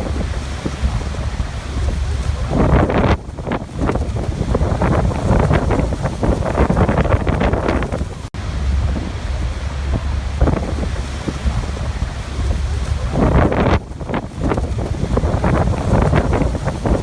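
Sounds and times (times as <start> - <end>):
deep rumble: 0.0 - 17.0
waterfall roaring: 0.0 - 17.0
wind buffeting microphone: 0.0 - 17.0.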